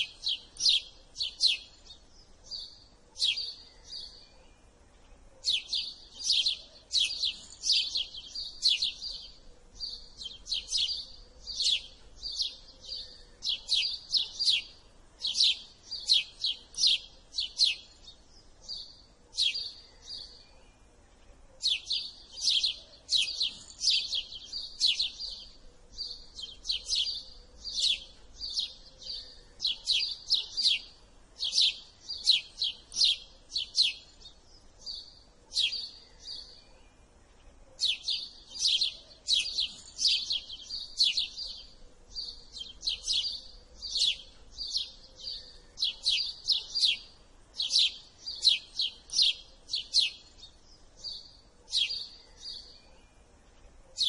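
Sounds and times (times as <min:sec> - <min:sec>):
sparrow chirping: 0:00.0 - 0:54.0.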